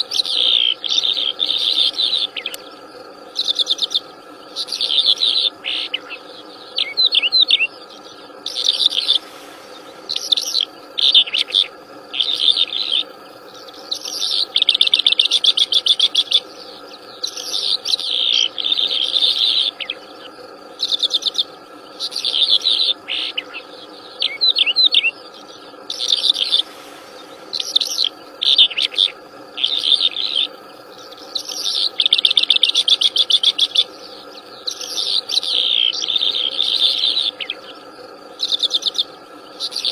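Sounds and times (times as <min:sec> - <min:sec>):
insect drone: 0:00.0 - 0:39.9
songbird trilling: 0:00.0 - 0:39.9.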